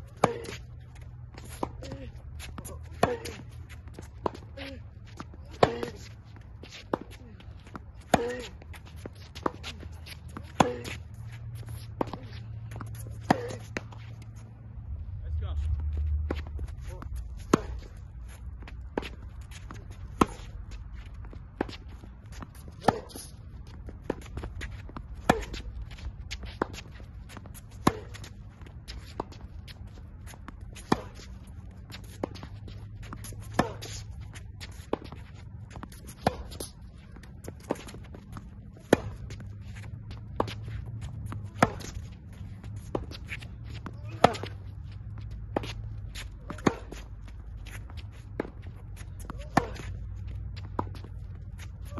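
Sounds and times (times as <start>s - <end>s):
racket hitting tennis ball: 0.0s - 14.3s, 16.2s - 51.9s
tennis ball bouncing: 0.0s - 14.5s, 15.6s - 51.9s
low steady rumble: 0.0s - 51.9s.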